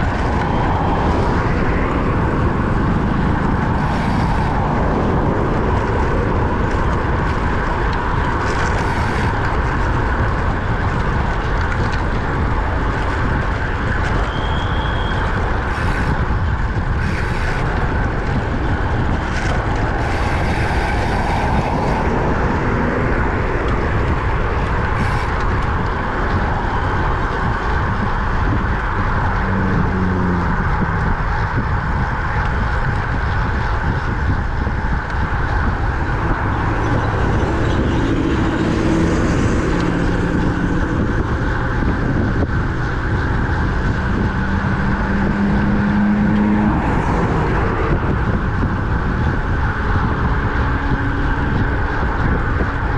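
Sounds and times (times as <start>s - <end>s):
road noise: 0.0s - 52.9s
wind on microphone: 0.0s - 52.9s.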